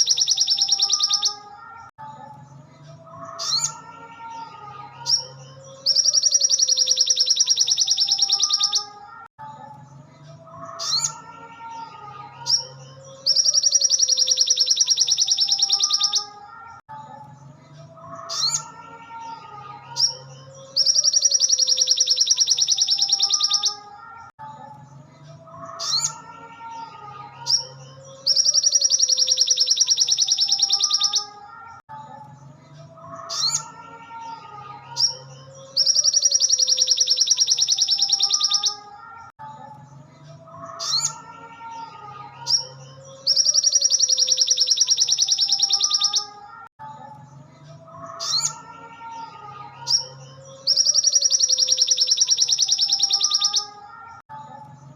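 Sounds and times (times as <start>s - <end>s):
songbird chirps and whistles: 0.0s - 11.4s, 12.4s - 26.8s, 27.4s - 32.4s, 33.1s - 40.0s, 40.6s - 41.3s, 42.4s - 47.2s, 48.0s - 48.7s, 49.8s - 54.2s
recorded songbird trill: 0.0s - 26.6s, 27.4s - 32.5s, 33.1s - 41.3s, 42.4s - 47.4s, 49.8s - 54.2s.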